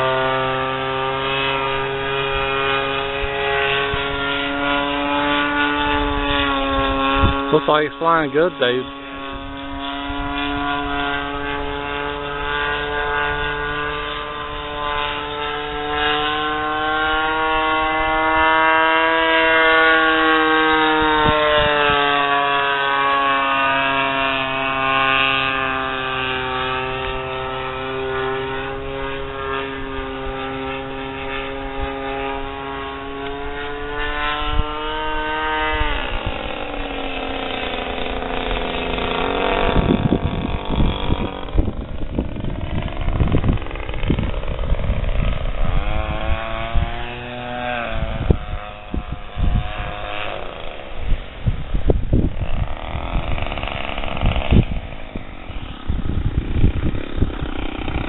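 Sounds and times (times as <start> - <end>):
model airplane propeller drone: 0.0 - 58.0.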